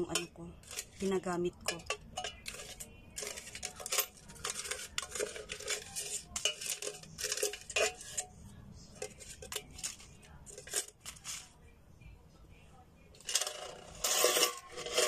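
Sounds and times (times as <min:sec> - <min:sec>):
chopstick scraping inside tin can: 0:00.1 - 0:08.3, 0:09.0 - 0:11.4, 0:13.2 - 0:15.0.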